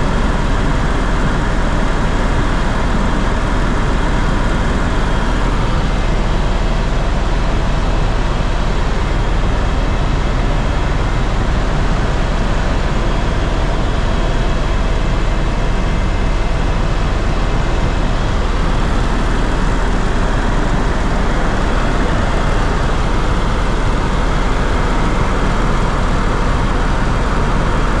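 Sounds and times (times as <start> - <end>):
aircraft cabin engine drone: 0.0 - 28.0.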